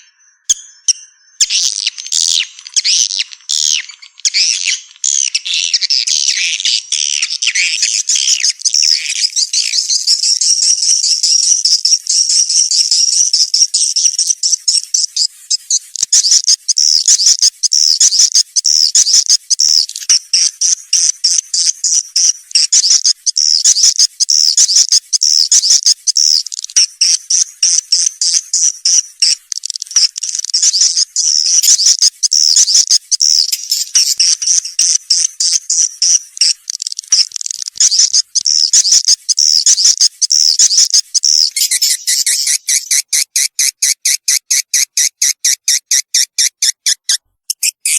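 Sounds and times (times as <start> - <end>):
high-pitched bird twittering: 0.0 - 47.9.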